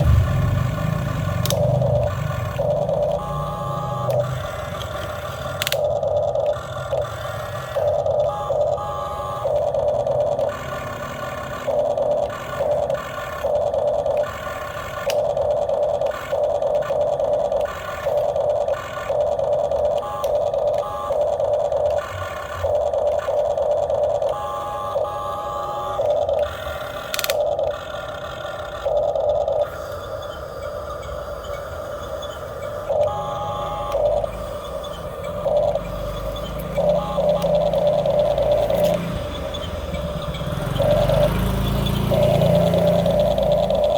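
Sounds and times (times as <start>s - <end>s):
small electric motors whining: 0.0s - 43.9s.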